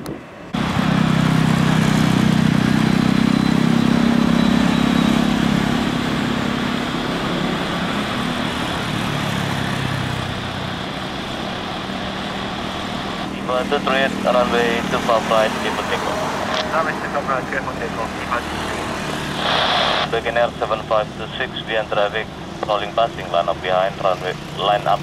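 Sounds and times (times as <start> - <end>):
faint high engine whine: 0.0 - 25.0
jet airliner taxiing: 0.0 - 25.0.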